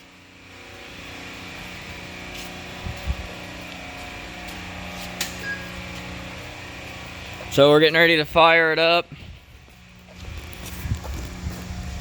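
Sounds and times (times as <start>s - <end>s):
mechanical hum inside vehicle cab: 0.0s - 12.0s.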